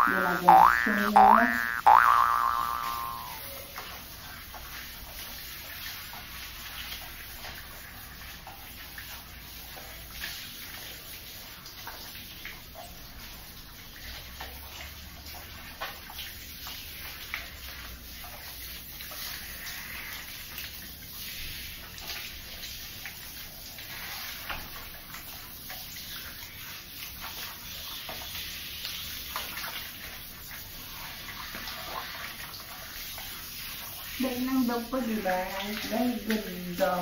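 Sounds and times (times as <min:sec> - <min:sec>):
shower water spraying on dog: 0:00.0 - 0:37.0.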